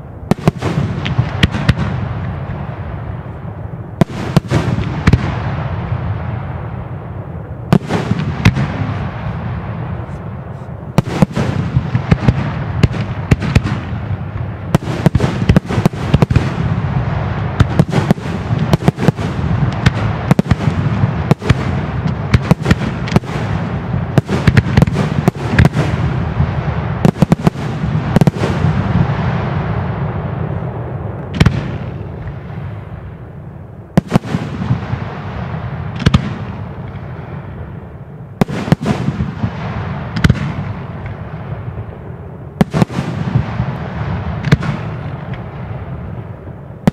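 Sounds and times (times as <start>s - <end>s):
fireworks bangs: 0.0s - 46.9s
fireworks crackling: 0.0s - 46.9s.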